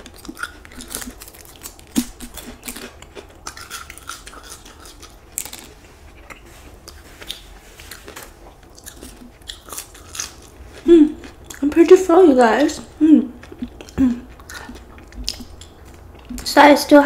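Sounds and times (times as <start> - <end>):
chewing crispy chicken: 0.0 - 16.6.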